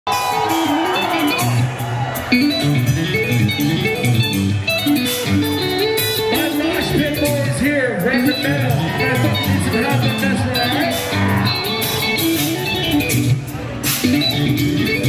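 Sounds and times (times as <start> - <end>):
rock band playing live: 0.1 - 15.0.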